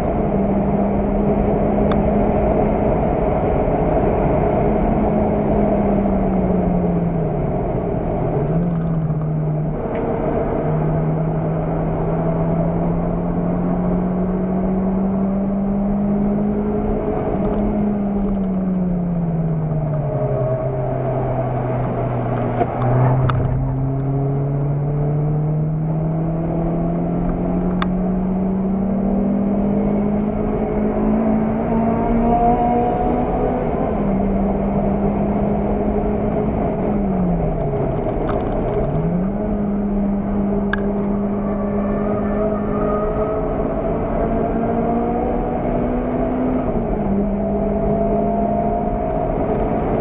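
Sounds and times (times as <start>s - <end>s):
car engine accelerating: 0.0s - 50.0s
road and wind noise: 0.0s - 50.0s.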